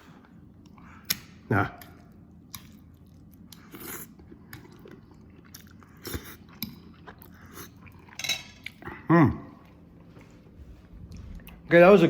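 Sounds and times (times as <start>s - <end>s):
man chewing: 0.0s - 11.7s.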